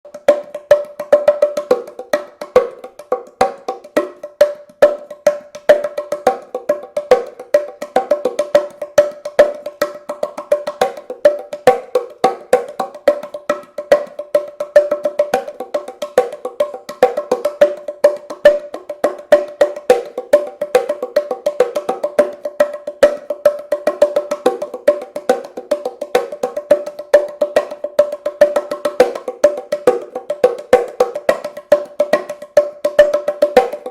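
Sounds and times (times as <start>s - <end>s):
hand slaps on wooden drum: 0.1s - 33.9s.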